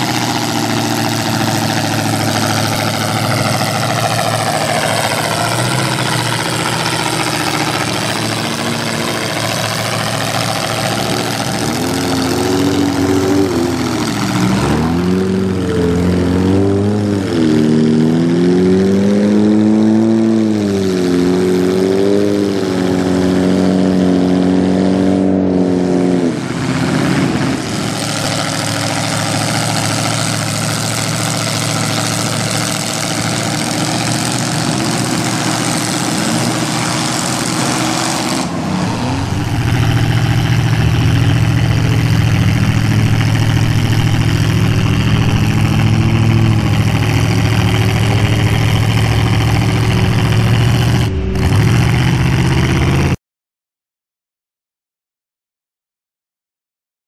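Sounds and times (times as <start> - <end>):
truck engine revving: 0.0 - 53.2.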